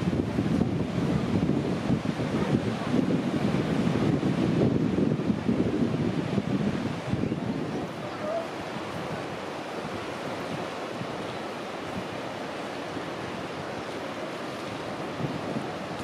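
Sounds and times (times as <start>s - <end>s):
sea surf: 0.0s - 16.0s
wind on microphone: 0.0s - 16.0s.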